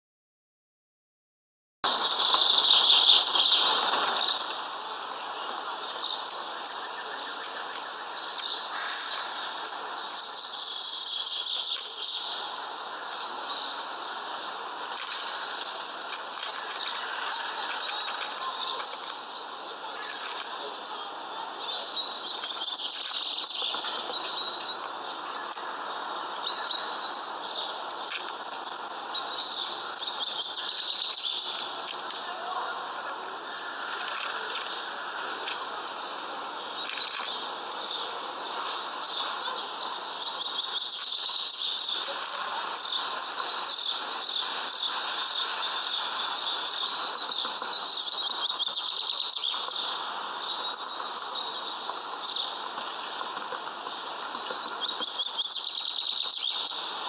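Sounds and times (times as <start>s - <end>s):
songbirds chirping: 1.9s - 57.0s.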